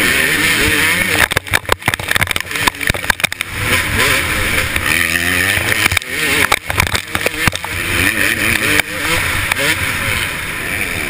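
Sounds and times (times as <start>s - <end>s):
motorcycle engine revving: 0.0s - 11.0s
bike knocking on bumps: 0.8s - 9.7s.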